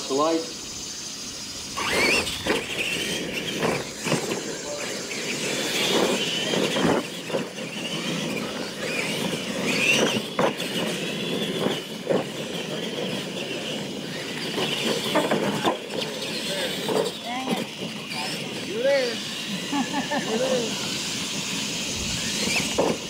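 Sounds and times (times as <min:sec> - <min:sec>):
toy truck motors whining: 0:00.0 - 0:23.0.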